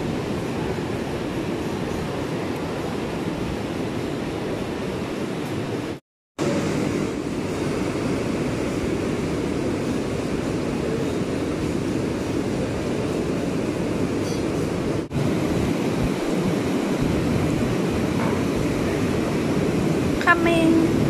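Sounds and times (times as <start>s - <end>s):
steady rushing background noise: 0.0s - 21.0s.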